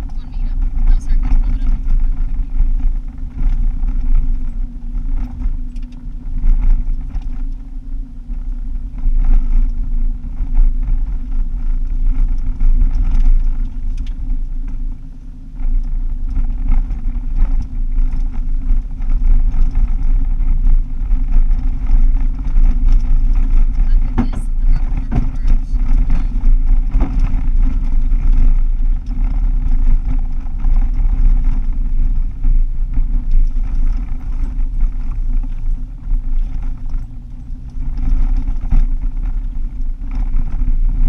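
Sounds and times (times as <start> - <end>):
car engine and tyre drone: 0.0 - 41.0
gravel clicks and rattles: 0.0 - 41.0.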